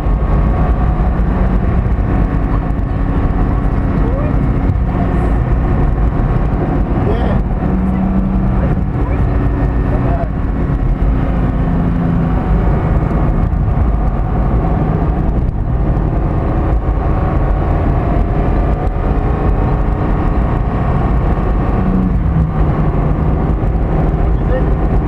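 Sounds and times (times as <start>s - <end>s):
car engine accelerating: 0.0s - 25.0s
tyre and road rumble: 0.0s - 25.0s.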